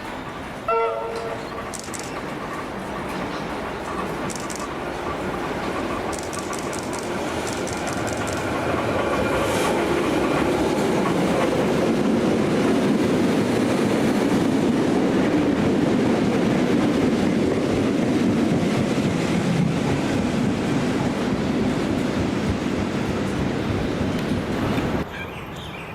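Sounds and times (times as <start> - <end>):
train wheels clicking: 0.0 - 25.0
electric train rumbling on rails: 0.0 - 25.9.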